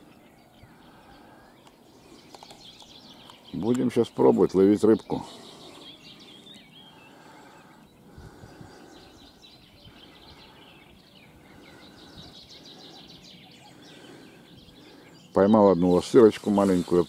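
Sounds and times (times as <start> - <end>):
small birds chirping: 0.0 - 17.0
steady outdoor background: 0.0 - 17.0.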